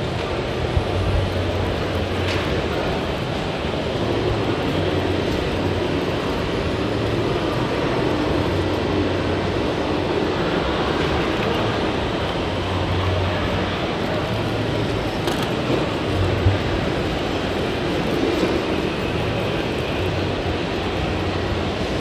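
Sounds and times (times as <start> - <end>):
crowd din in hall: 0.0 - 22.0.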